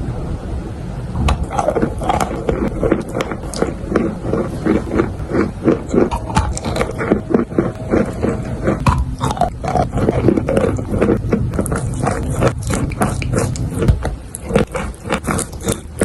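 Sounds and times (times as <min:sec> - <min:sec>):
chalk crunching being chewed: 0:01.4 - 0:16.0.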